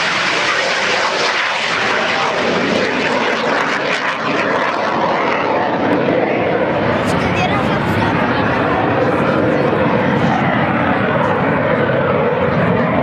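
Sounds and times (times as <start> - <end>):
jet aircraft passing low: 0.0 - 13.0.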